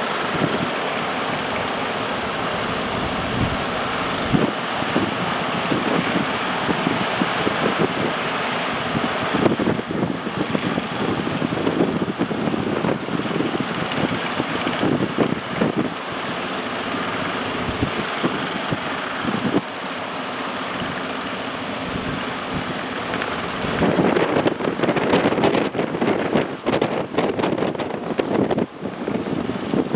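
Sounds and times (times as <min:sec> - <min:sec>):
wind buffeting microphone: 0:00.0 - 0:19.8, 0:20.6 - 0:29.9
surf rushing: 0:00.0 - 0:29.9.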